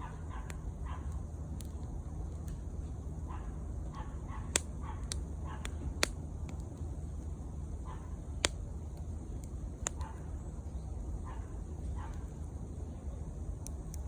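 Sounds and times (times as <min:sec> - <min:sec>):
steady low rumble: 0:00.0 - 0:14.0
bonfire crackling and popping: 0:00.3 - 0:14.0.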